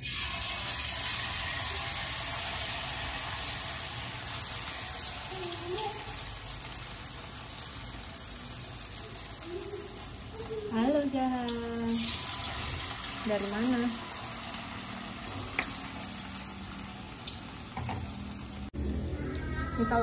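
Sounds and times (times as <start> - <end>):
batter deep-frying in hot oil: 0.0 - 18.8.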